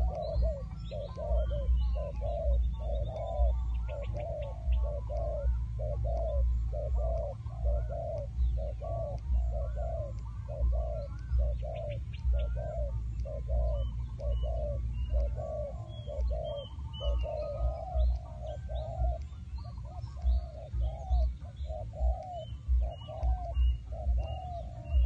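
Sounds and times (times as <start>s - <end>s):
dove decoy cooing: 0.0s - 25.0s
small birds chirping faintly: 0.0s - 25.0s
steady low rumble: 0.0s - 25.0s.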